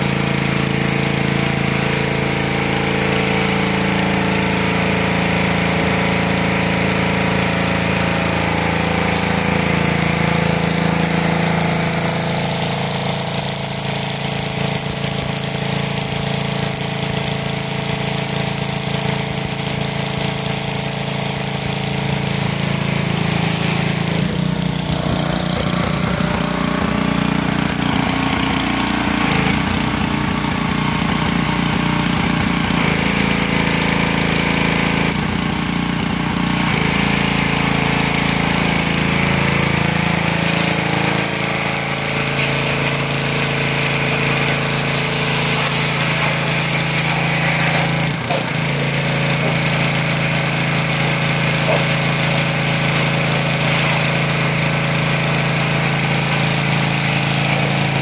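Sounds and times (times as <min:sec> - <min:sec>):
high-pressure spray hissing on concrete: 0:00.0 - 0:58.0
small engine running: 0:00.0 - 0:58.0.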